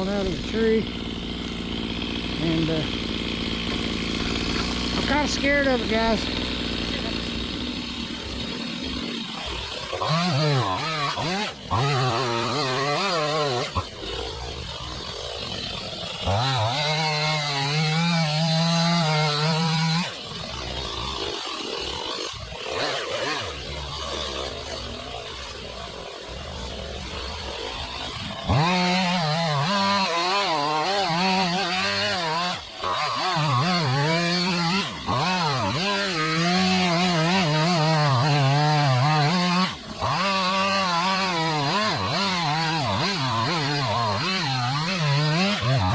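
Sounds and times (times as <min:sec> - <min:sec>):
chainsaw cutting: 0:00.0 - 0:45.9.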